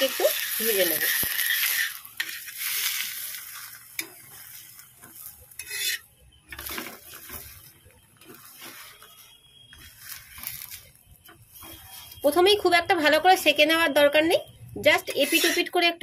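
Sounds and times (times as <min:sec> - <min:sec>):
metal spatula scraping griddle: 0:00.0 - 0:12.4, 0:14.9 - 0:15.8
oil sizzling under flatbread: 0:00.0 - 0:16.0.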